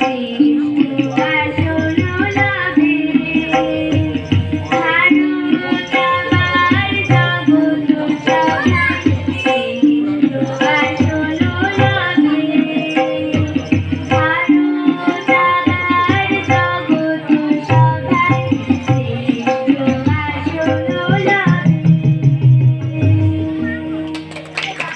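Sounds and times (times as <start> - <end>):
tabla strokes: 0.0 - 24.9.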